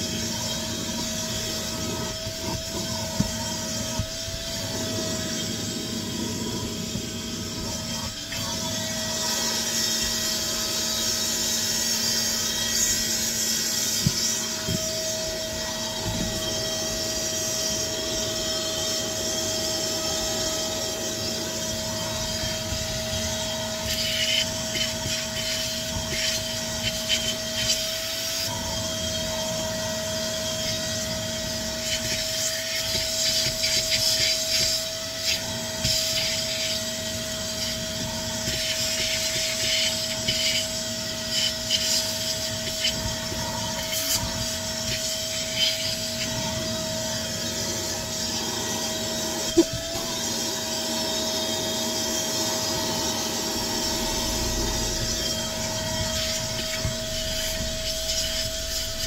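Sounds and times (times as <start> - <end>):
vacuum cleaner whine: 0.0 - 59.0
vacuum nozzle scraping: 0.0 - 59.0.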